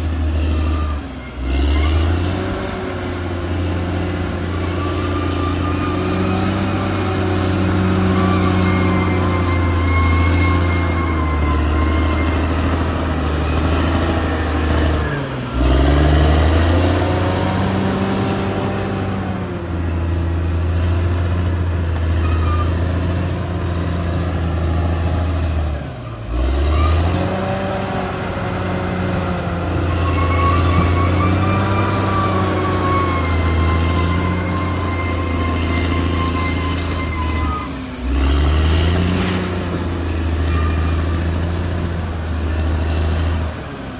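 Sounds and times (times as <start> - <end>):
bulldozer diesel engine under load: 0.0 - 43.9.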